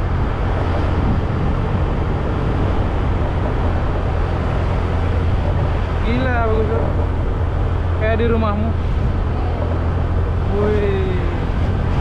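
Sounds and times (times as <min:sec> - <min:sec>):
motorcycle engine drone: 0:00.0 - 0:12.0
wind and road noise: 0:00.0 - 0:12.0.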